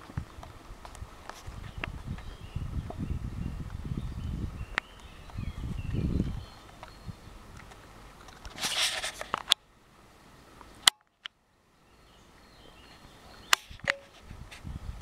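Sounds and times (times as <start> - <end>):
rustle of leaves: 0.0 - 15.0.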